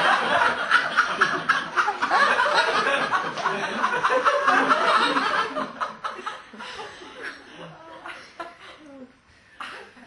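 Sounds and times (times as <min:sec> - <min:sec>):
audience laughing: 0:00.0 - 0:08.6.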